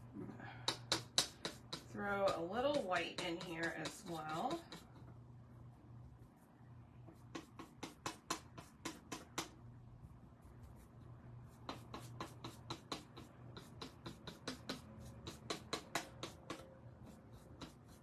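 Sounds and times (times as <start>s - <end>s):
paintbrush strokes: 1.2s - 9.2s, 9.9s - 18.0s.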